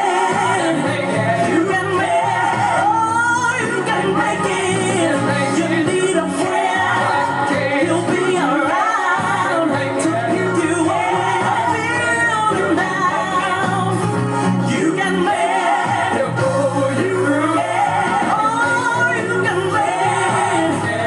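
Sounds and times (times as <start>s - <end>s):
band accompaniment: 0.0s - 21.0s
woman singing gospel: 0.0s - 21.0s.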